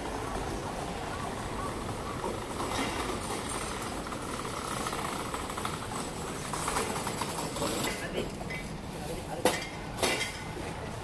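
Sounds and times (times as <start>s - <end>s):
city street traffic din: 0.0s - 11.0s.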